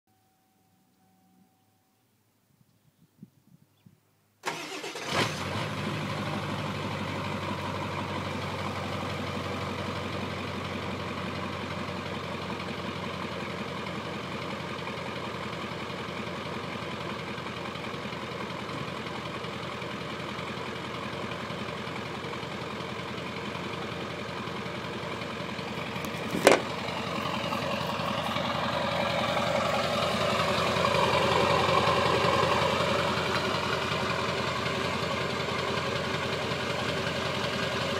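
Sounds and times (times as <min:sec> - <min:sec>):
diesel engine idling: 0:04.4 - 0:37.9.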